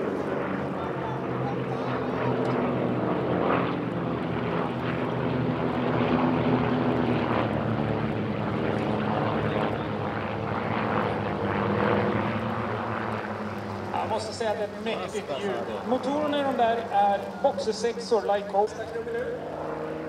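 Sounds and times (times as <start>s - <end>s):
propeller planes droning overhead: 0.0s - 20.0s.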